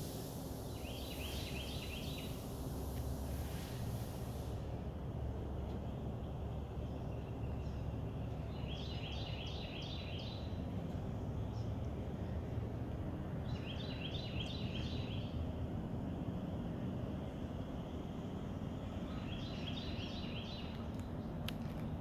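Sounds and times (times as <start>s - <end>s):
songbird singing: 0.6s - 3.6s, 5.3s - 21.9s.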